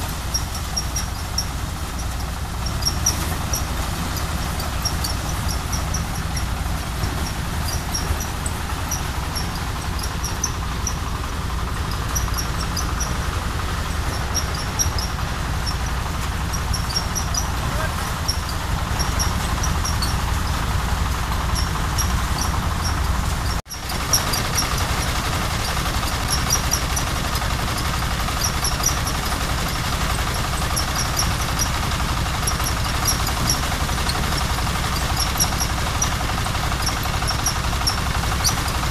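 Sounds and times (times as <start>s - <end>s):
diesel engine drone: 0.0s - 38.9s
light high ticking: 0.0s - 38.9s
thresher whirring: 0.0s - 38.9s.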